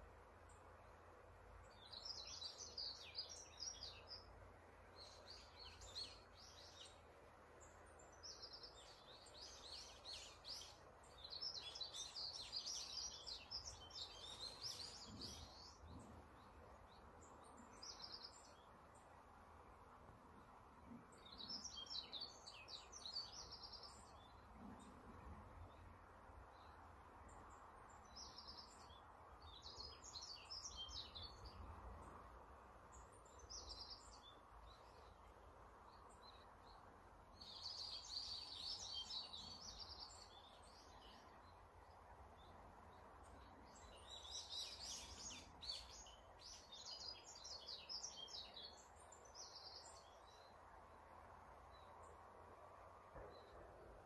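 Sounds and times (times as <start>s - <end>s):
faint steady hiss: 0.0s - 54.0s
songbird singing: 0.0s - 54.0s.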